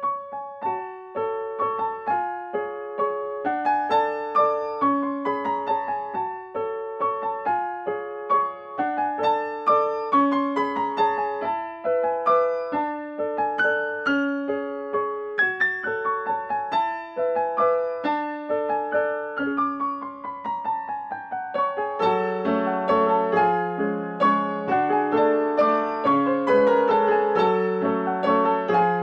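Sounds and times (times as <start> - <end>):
keyboard piano-like melody: 0.0 - 29.0.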